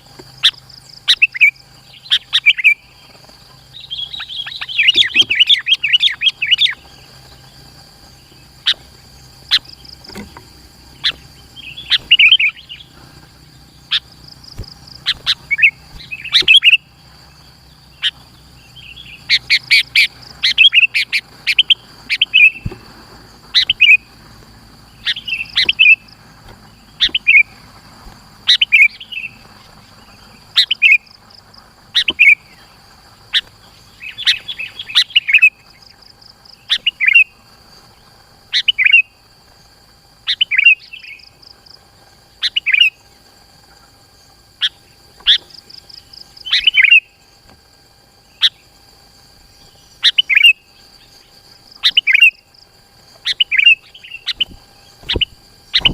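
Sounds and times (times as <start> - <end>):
bulbul chirping song: 0.0 - 55.9.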